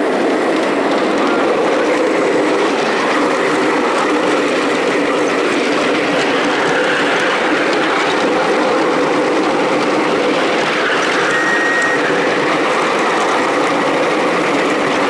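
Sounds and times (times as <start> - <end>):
small train wheels rumbling on rails: 0.0 - 15.0.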